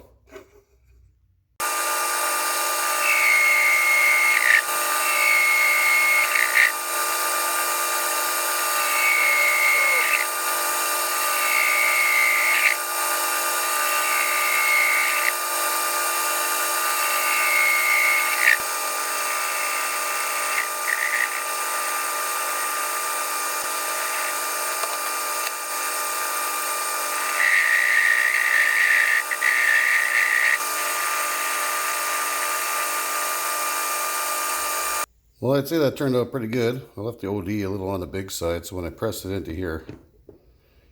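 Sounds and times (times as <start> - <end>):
metal lathe running: 1.6 - 35.1.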